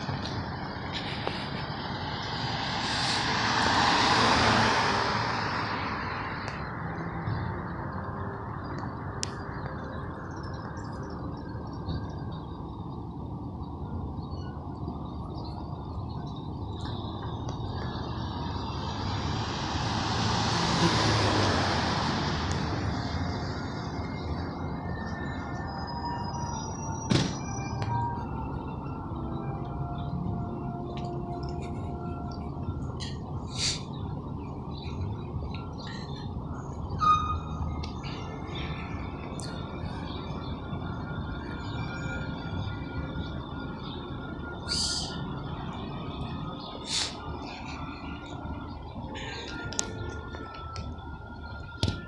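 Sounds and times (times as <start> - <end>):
fire truck engine rumbling: 0.0 - 52.0
tyre and road noise: 0.0 - 52.0.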